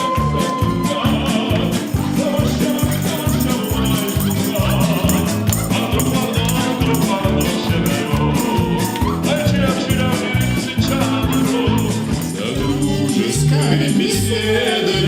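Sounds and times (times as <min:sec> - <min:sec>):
upbeat band music: 0:00.0 - 0:15.0.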